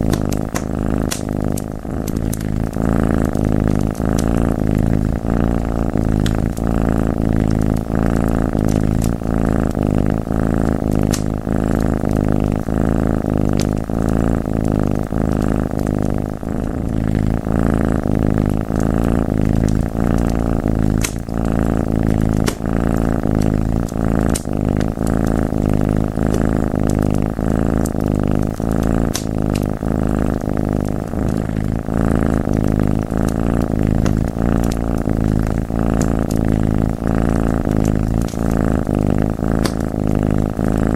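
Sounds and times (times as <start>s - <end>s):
wood fire crackling: 0.0s - 40.4s
cat purring: 0.0s - 40.9s.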